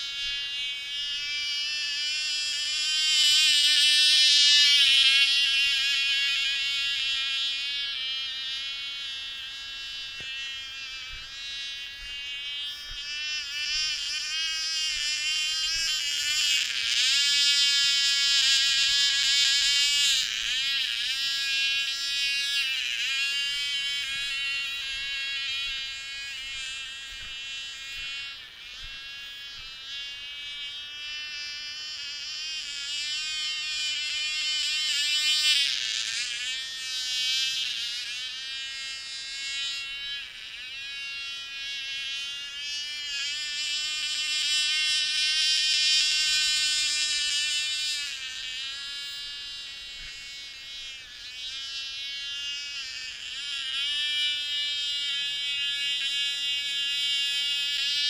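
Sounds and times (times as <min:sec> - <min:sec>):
model plane engine buzzing: 0:00.0 - 0:58.0.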